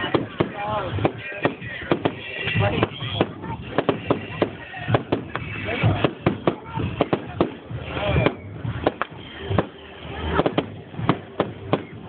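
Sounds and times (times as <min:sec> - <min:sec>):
fireworks bangs: 0:00.0 - 0:12.0
onlookers' voices: 0:00.0 - 0:12.0.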